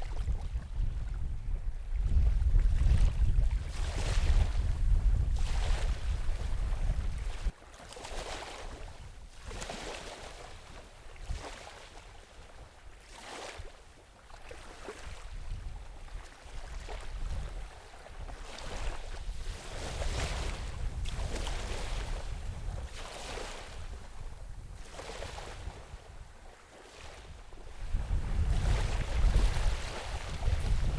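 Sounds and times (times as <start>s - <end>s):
wind rumbling on microphone: 0.0s - 13.8s, 14.4s - 30.9s
small waves washing on shore: 0.0s - 30.9s.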